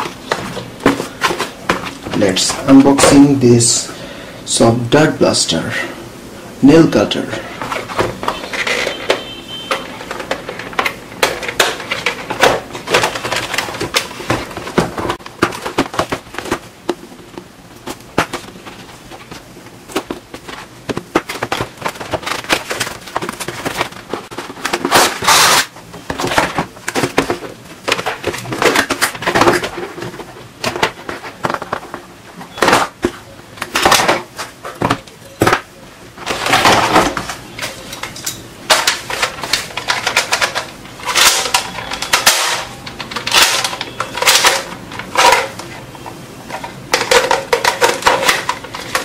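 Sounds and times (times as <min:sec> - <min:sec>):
plastic packaging rustling: 0:07.5 - 0:49.0.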